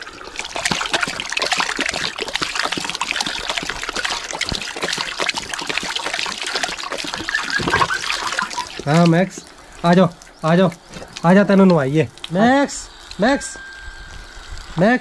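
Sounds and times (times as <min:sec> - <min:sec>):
dog drinking: 0:00.0 - 0:13.2
water splashing on floor: 0:00.0 - 0:14.6.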